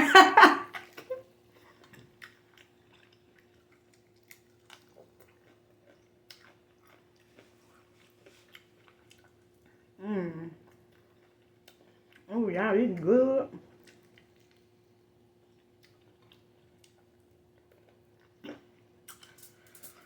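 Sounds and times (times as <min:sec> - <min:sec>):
person chewing wet food: 0:00.8 - 0:12.3, 0:13.6 - 0:20.0.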